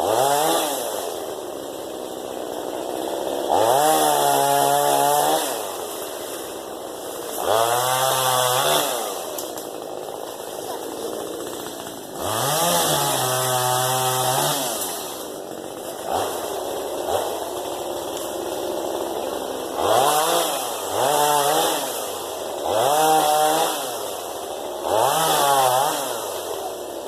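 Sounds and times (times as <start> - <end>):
chainsaw revving and idling: 0.0 - 27.0.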